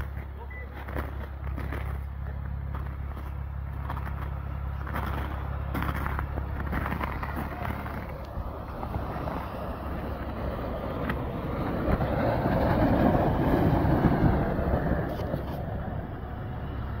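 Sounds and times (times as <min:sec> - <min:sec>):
vehicle driving through snow: 0:00.0 - 0:17.0.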